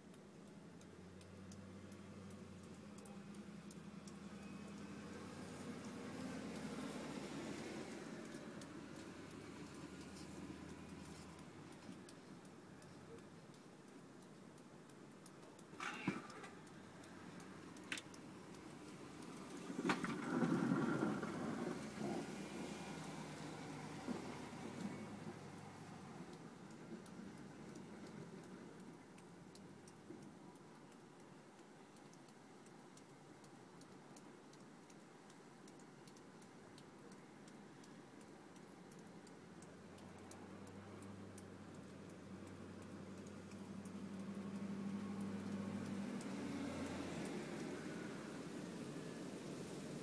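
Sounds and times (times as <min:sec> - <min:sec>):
faint clicks: 0:00.0 - 0:50.0
faint irregular ticking: 0:00.0 - 0:50.0
low background hiss: 0:00.0 - 0:50.0.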